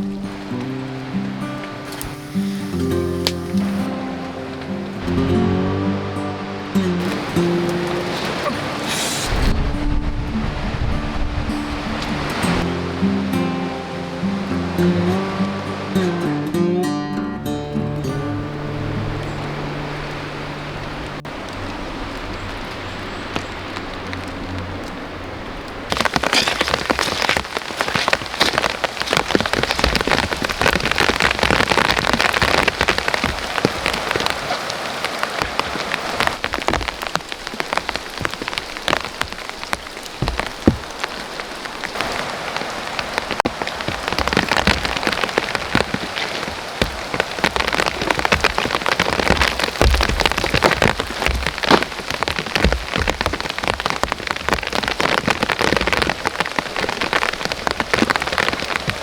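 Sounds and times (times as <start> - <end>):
raindrops tapping a surface: 0.0 - 5.4, 7.0 - 15.8, 19.1 - 59.0
heavy rain falling: 0.0 - 16.7, 17.5 - 59.0.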